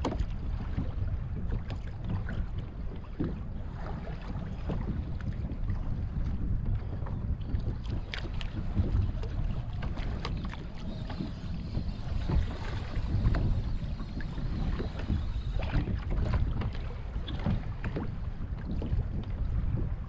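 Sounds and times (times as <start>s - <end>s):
water lapping against hull: 0.0s - 20.0s
wind buffeting microphone: 0.0s - 20.0s.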